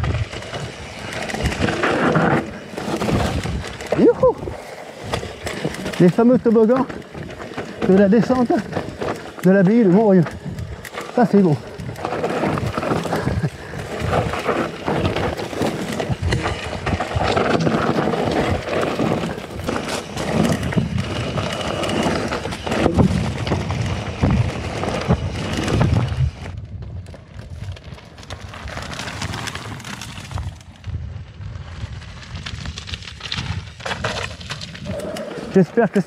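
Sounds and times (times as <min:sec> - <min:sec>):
tyres crunching over stones: 0:00.0 - 0:31.0, 0:31.6 - 0:36.0
bike rattling: 0:00.0 - 0:36.0.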